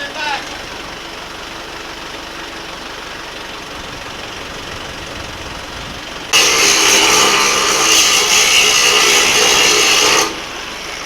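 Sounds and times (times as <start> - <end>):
electric winch motor whining: 0.0 - 11.0
steady mechanical hum: 0.0 - 11.0.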